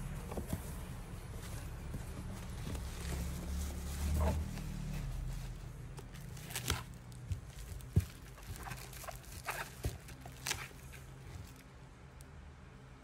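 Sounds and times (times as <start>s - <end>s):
bubble wrap rustling and crinkling: 0.0s - 11.8s.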